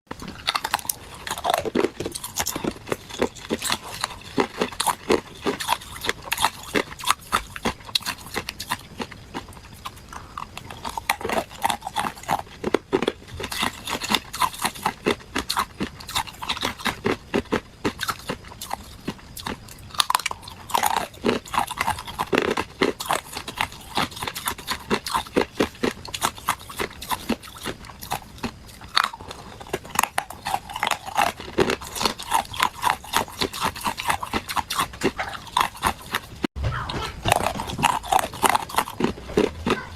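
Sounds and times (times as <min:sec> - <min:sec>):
person chewing ice cubes: 0:00.1 - 0:39.9.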